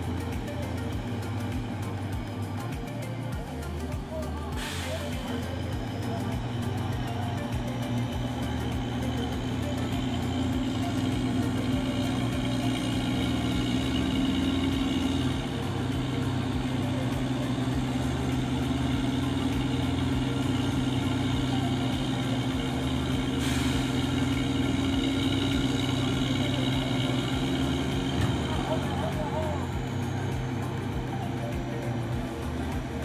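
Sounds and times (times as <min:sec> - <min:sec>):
crane engine running: 0:00.0 - 0:33.0.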